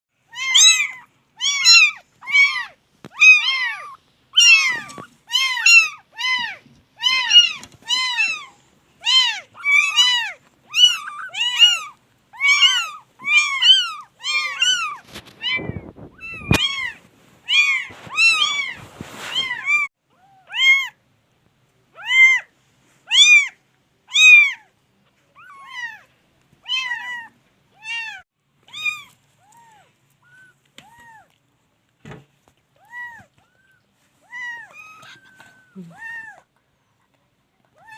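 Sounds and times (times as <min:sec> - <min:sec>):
rustle: 0:00.3 - 0:20.9, 0:22.3 - 0:37.9
kittens meowing: 0:00.3 - 0:21.0, 0:21.9 - 0:22.5, 0:23.1 - 0:24.7, 0:25.3 - 0:31.4, 0:32.8 - 0:36.5.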